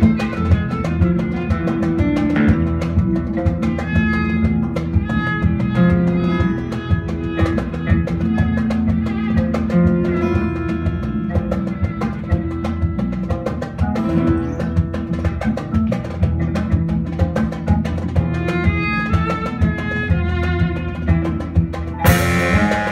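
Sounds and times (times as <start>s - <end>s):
acoustic guitar: 0.0s - 22.9s
drum kit beat: 0.0s - 22.9s
electric bass: 0.0s - 22.9s
oud: 0.0s - 22.9s
violin: 0.0s - 22.9s.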